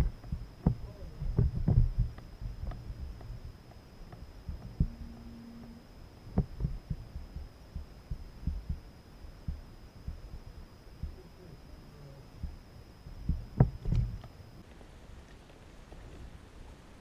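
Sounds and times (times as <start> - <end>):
brief low hum: 0.0 - 14.6.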